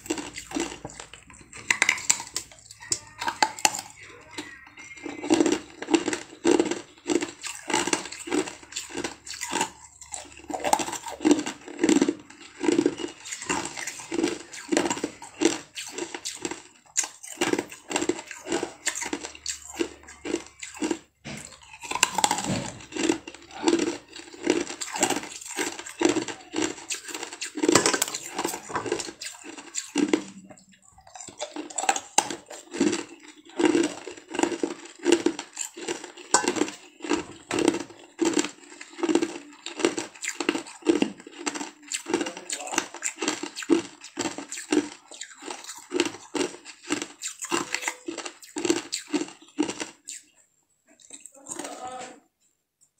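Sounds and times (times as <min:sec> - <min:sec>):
chewing food with crunching: 0:00.0 - 0:52.9.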